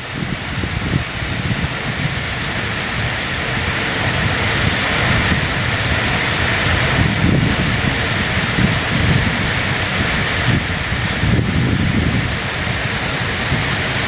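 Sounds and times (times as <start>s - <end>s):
steady rushing hiss: 0.0s - 14.0s
wind buffeting microphone: 0.0s - 14.0s.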